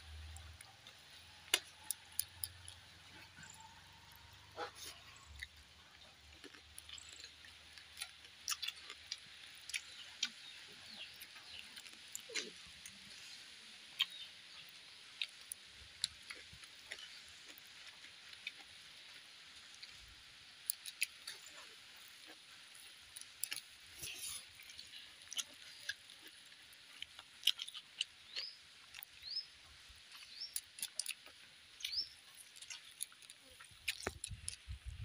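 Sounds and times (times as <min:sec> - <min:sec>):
chewing and lip smacks: 0:00.1 - 0:20.0, 0:20.6 - 0:35.0.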